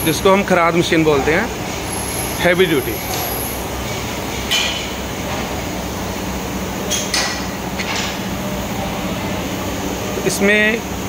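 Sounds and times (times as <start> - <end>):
mechanical hum with low drone: 0.0 - 11.0.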